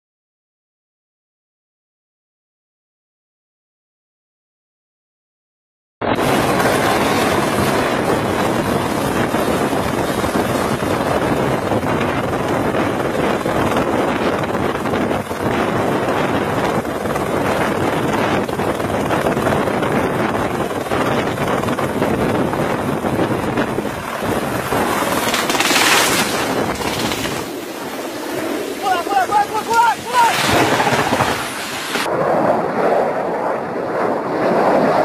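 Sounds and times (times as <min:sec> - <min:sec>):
helicopter hovering: 0:06.1 - 0:35.0
wind buffeting microphone: 0:06.1 - 0:35.0.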